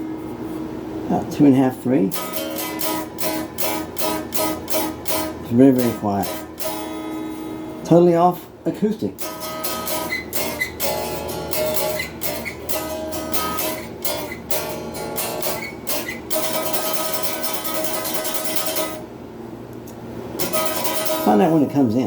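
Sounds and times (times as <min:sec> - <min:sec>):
unamplified guitar strumming: 0:00.0 - 0:19.2, 0:19.8 - 0:22.0.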